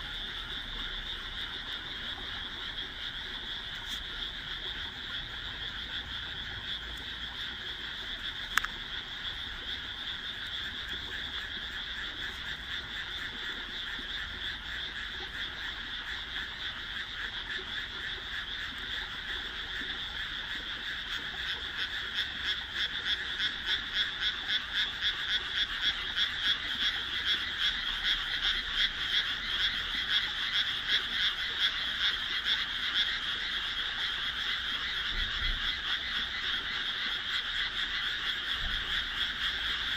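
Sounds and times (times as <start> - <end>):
chorus of frogs calling: 0.0 - 39.9
pulsing frog calls: 0.0 - 39.9.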